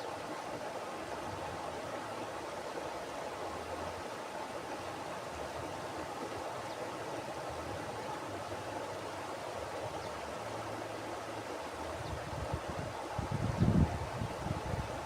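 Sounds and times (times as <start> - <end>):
river flowing over rocks: 0.0 - 15.0.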